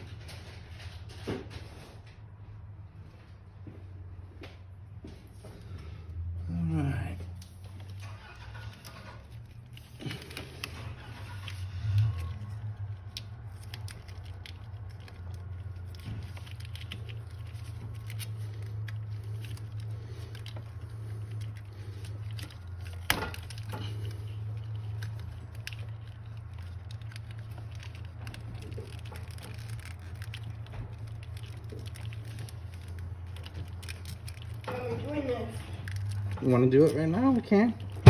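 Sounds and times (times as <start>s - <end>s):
hands handling wiring and plastic: 7.2s - 38.0s.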